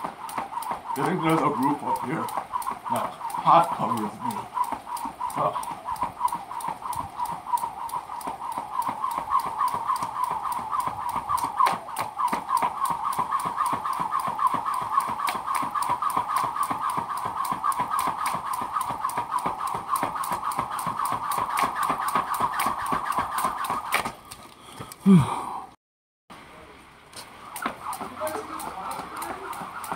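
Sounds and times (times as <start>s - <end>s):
jump rope slapping the ground: 0.0s - 25.0s, 27.2s - 29.9s.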